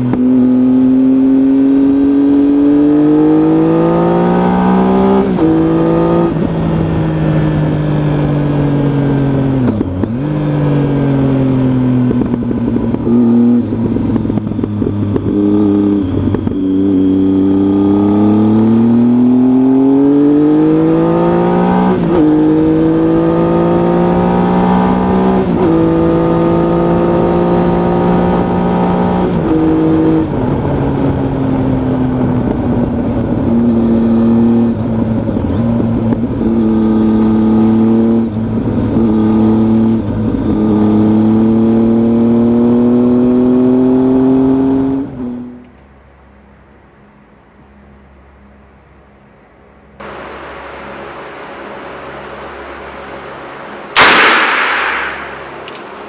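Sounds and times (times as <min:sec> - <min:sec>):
motorcycle engine accelerating: 0:00.0 - 0:45.7, 0:50.0 - 0:56.0.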